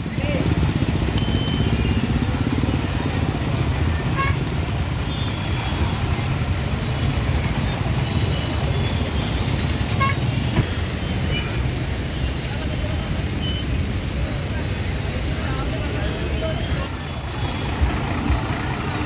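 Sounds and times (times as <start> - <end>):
lorry engines in traffic: 0.0 - 19.0.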